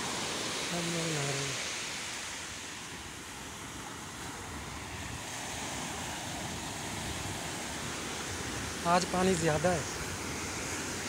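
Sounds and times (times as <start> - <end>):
waves breaking on sandy beach: 0.0 - 11.0
wind rumble on microphone: 1.6 - 11.0.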